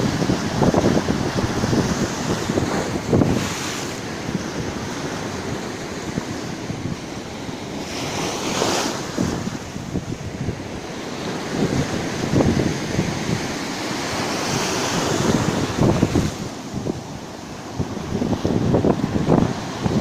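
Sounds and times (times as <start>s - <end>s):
sea waves breaking: 0.0s - 20.0s
wind buffeting microphone: 0.0s - 20.0s.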